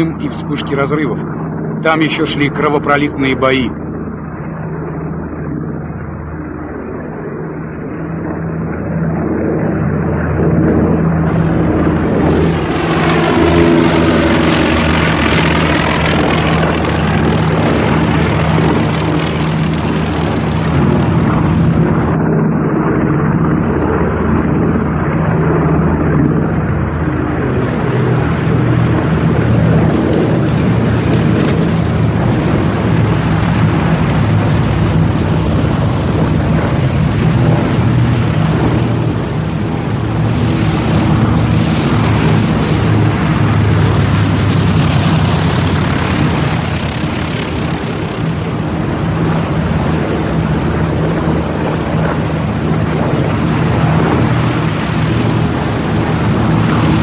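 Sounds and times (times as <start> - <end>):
aircraft passing close: 0.0 - 57.0
propeller aircraft droning: 0.0 - 57.0.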